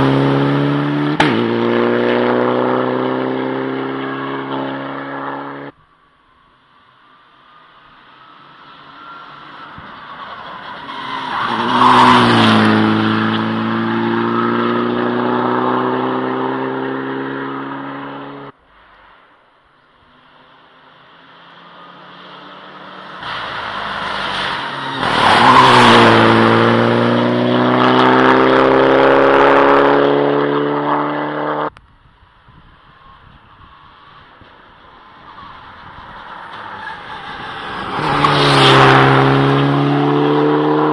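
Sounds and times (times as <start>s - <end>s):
rally cars passing at full throttle: 0.0s - 40.9s.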